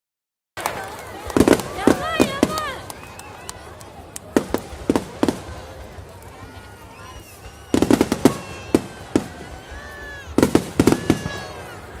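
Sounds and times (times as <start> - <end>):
fireworks bangs: 0.6 - 3.4, 4.1 - 12.0
fireworks crackling volley: 0.6 - 12.0.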